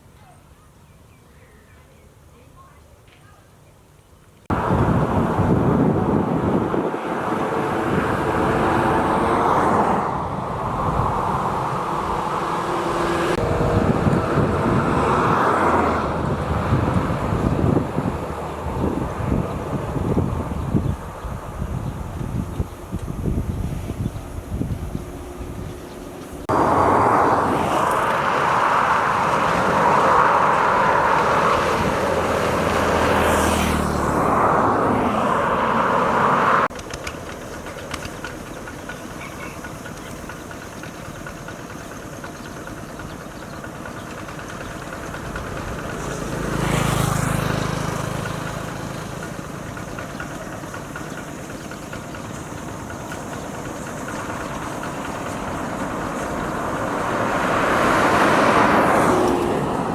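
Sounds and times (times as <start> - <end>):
motor vehicle passing: 4.5 - 59.9.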